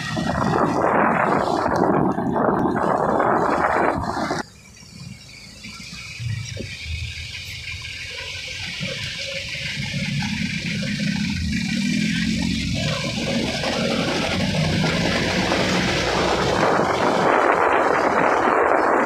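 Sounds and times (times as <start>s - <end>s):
traffic engine rumble: 0.0s - 19.0s
vehicle on wet road: 0.0s - 19.0s.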